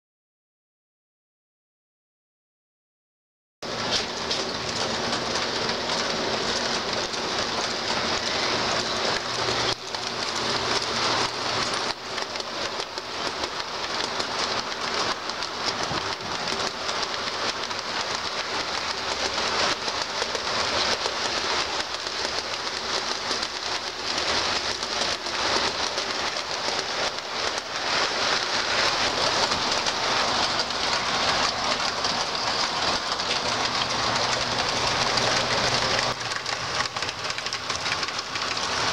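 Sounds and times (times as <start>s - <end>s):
model train wheels rattling on rails: 3.6s - 38.9s.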